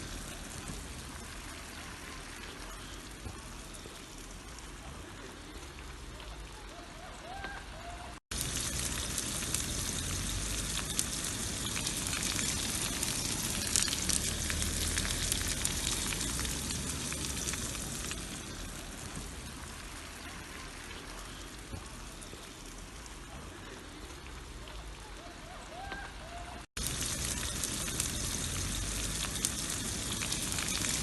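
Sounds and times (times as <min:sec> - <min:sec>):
sausage sizzling in oil: 0:00.0 - 0:06.0, 0:08.2 - 0:24.2, 0:26.7 - 0:31.0.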